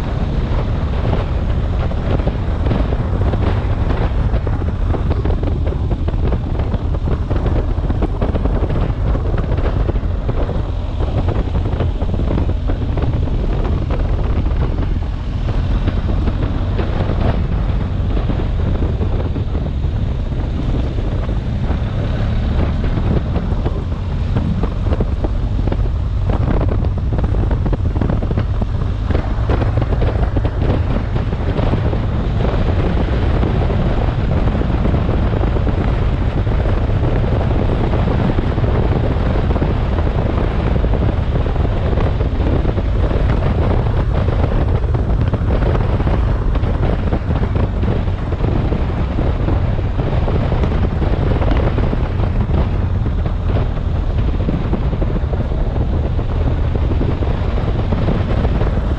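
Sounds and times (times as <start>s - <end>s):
motorcycle engine running: 0.0s - 58.9s
wind buffeting microphone: 0.0s - 58.9s.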